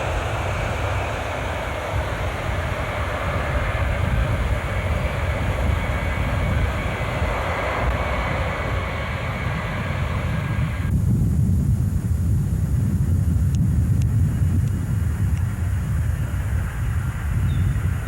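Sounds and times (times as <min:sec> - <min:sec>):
faint high whine: 0:00.0 - 0:18.0
jet engines roaring: 0:00.0 - 0:18.0.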